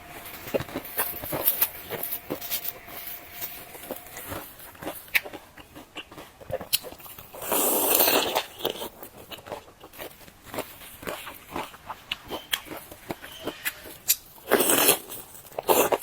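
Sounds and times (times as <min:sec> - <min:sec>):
crunchy chewing of fried dough: 0:00.0 - 0:16.0.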